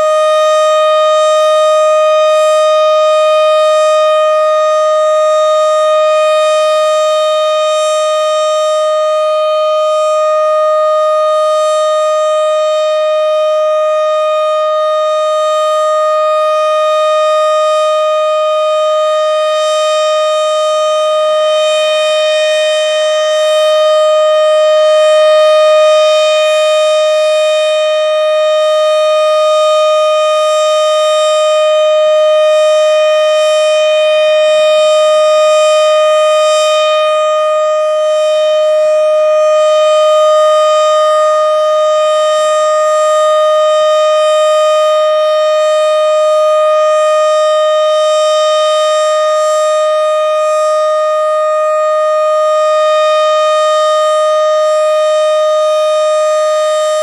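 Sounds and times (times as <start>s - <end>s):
tornado siren steady tone: 0.0s - 57.0s.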